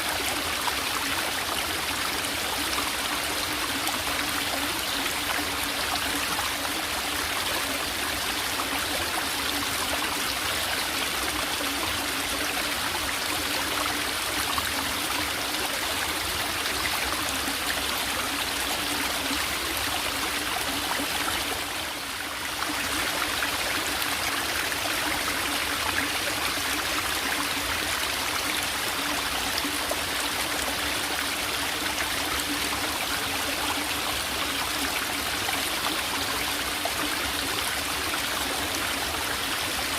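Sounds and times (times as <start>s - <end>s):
brook trickling: 0.0s - 39.9s.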